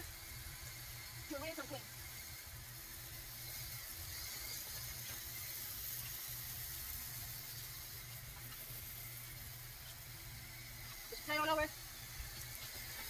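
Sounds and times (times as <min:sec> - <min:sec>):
hose sprayer hissing: 0:00.0 - 0:13.0
steady low hum: 0:00.0 - 0:13.0.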